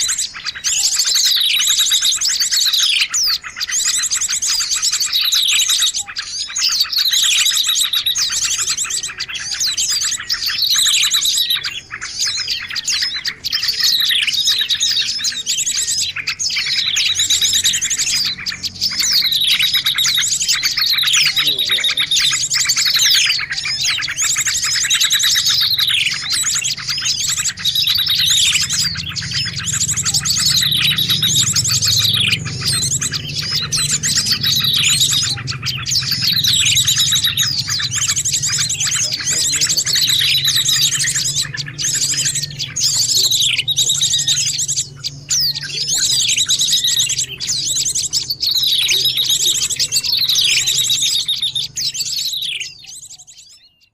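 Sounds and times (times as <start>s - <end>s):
falling bird call: 0.0s - 53.9s
songbirds chirping and twittering: 0.0s - 53.9s.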